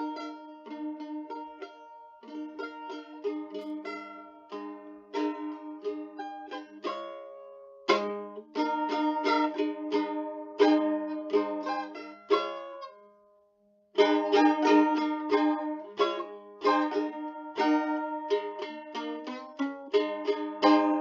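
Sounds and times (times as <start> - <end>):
plucked-string instrumental music: 0.0 - 21.0.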